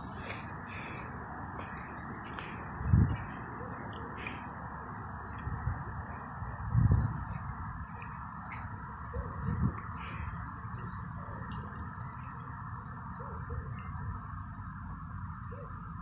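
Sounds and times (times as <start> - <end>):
constant low hum: 0.0 - 16.0
insects trilling: 0.0 - 16.0.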